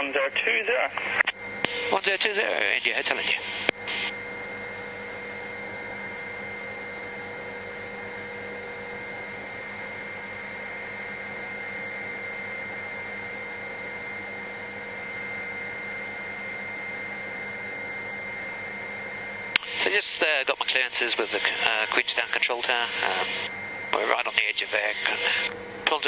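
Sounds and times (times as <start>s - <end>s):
helicopter drone inside cabin: 0.0s - 26.0s
high whine: 0.0s - 26.0s.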